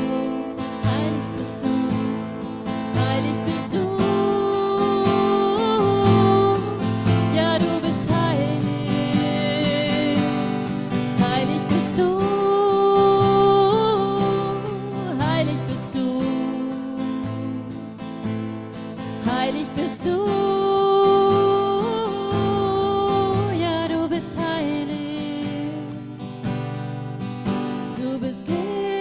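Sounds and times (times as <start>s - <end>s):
strummed acoustic guitar: 0.0s - 29.0s.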